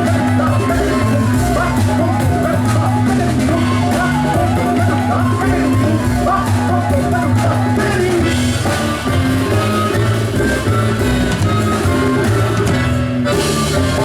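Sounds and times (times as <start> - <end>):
accordion melody: 0.0 - 14.0
double bass notes: 0.0 - 14.0
drums beat: 0.0 - 14.0
folk jazz band playing: 0.0 - 14.0.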